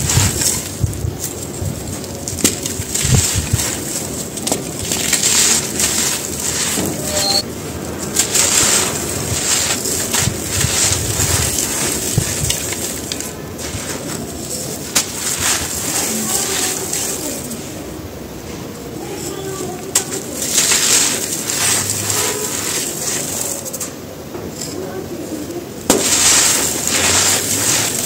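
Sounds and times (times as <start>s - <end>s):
grit falling: 0.0s - 17.8s, 19.0s - 24.8s, 25.8s - 28.0s
gritty crunches of cement: 0.0s - 17.8s, 19.0s - 24.8s, 25.8s - 28.0s.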